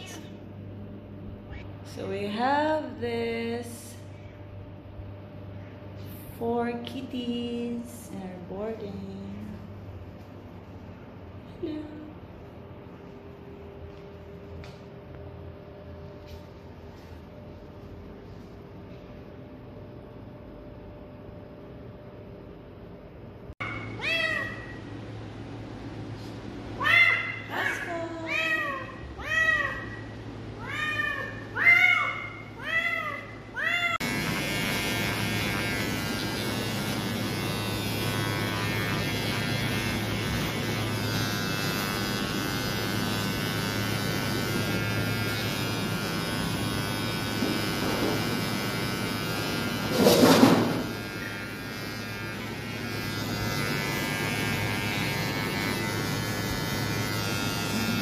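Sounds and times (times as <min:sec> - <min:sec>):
electric clippers humming: 0:06.0 - 0:15.2, 0:15.8 - 0:18.6, 0:23.5 - 0:58.0.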